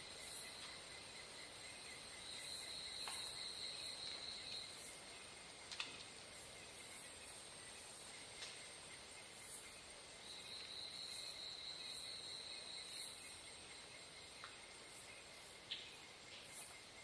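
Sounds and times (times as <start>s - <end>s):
insect trill: 0.0s - 17.0s
insects chirping: 0.0s - 17.0s.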